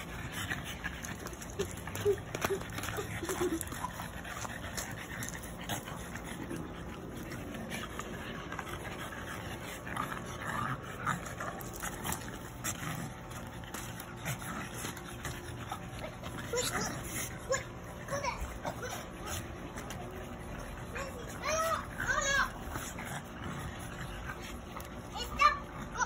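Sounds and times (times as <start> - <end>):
dog breathing: 0.0 - 26.0
dog vocal noises: 0.0 - 26.0
dogs wrestling: 0.0 - 26.0.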